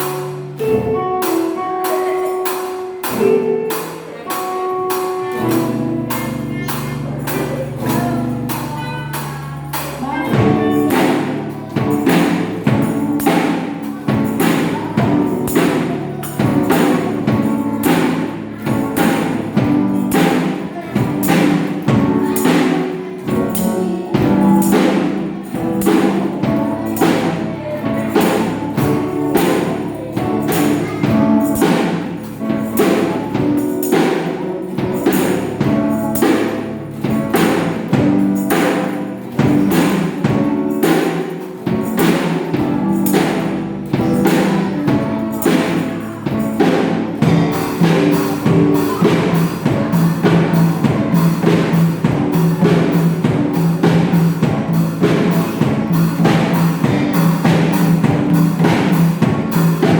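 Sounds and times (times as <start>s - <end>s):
drum beat: 0.0s - 59.9s.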